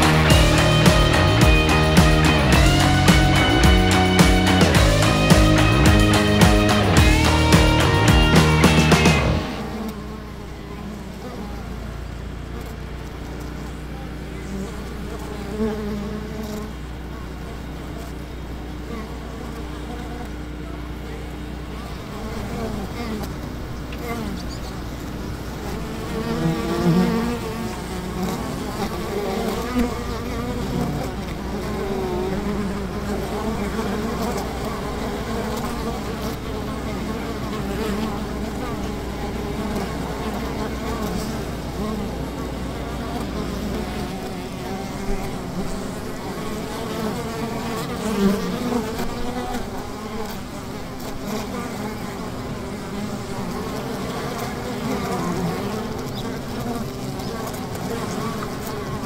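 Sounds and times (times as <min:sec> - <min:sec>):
buzzing with wavering pitch: 0:00.0 - 0:59.0.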